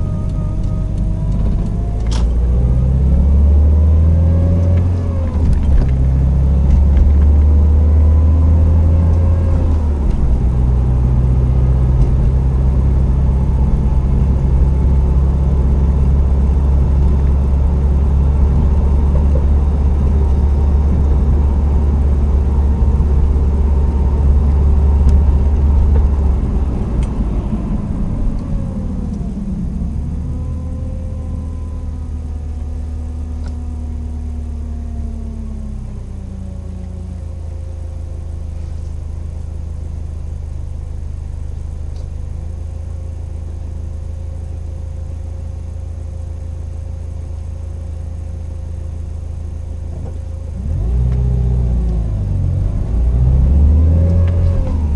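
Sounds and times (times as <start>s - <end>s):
car engine droning: 0.0s - 54.9s
power steering pump whine: 0.0s - 54.9s.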